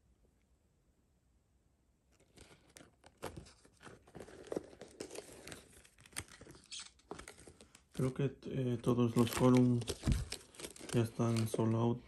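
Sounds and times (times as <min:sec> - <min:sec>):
paper tags rustling and crinkling: 0:02.1 - 0:12.0.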